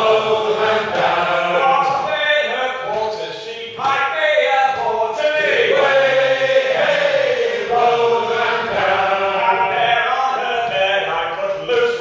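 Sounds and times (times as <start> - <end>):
men singing unaccompanied: 0.0 - 12.0.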